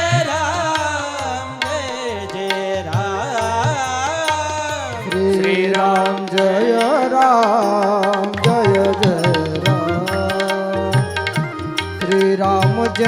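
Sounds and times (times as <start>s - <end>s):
ornamented melody sung with vibrato: 0.0s - 13.0s.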